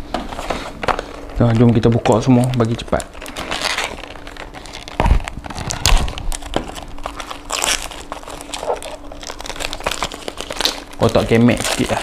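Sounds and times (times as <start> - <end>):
plastic wrapping crinkling: 0.8 - 12.0.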